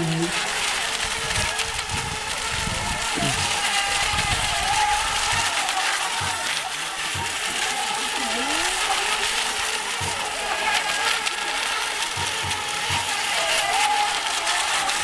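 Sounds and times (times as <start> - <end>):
electric boat motors whining: 0.0 - 15.0.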